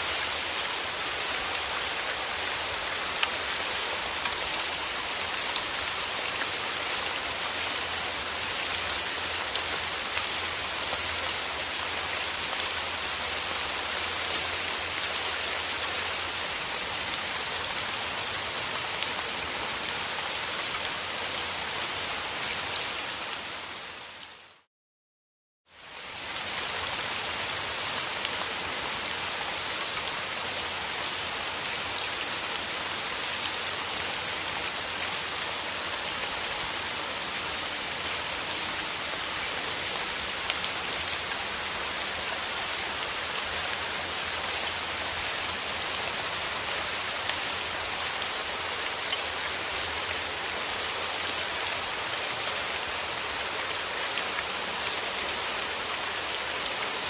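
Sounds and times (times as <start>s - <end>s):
steady rain falling: 0.0s - 24.7s, 25.7s - 57.0s.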